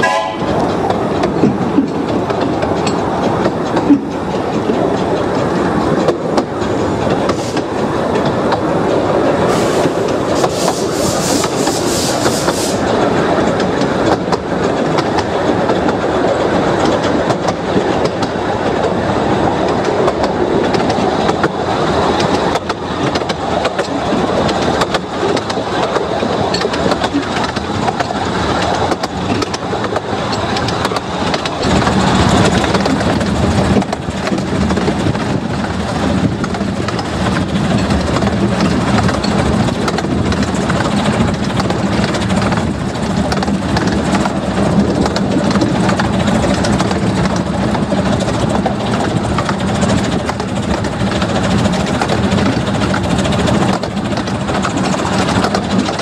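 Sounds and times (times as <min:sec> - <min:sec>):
wheels rattling on rails: 0:00.0 - 0:56.0.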